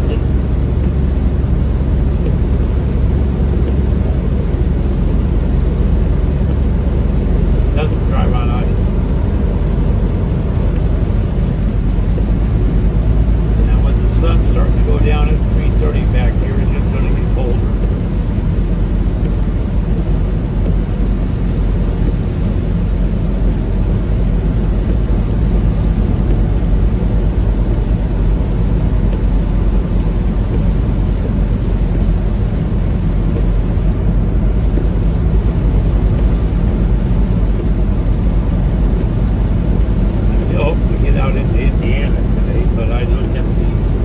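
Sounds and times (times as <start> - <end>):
road noise: 0.0 - 44.0
truck engine rumble: 0.0 - 44.0.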